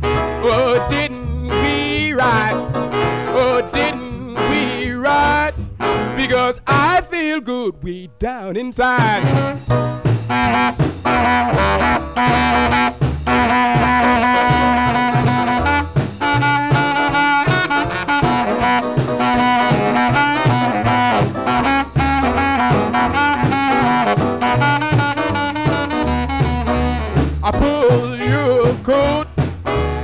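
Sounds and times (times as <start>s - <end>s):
upbeat saxophone-led instrumental music: 0.0s - 30.0s.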